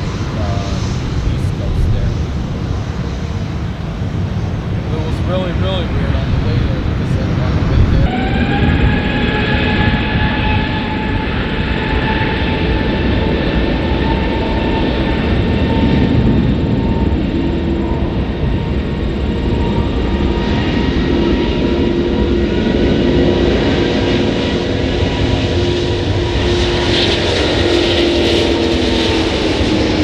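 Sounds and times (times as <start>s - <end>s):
high engine whine: 0.0s - 30.0s
jet engines roaring: 0.0s - 30.0s.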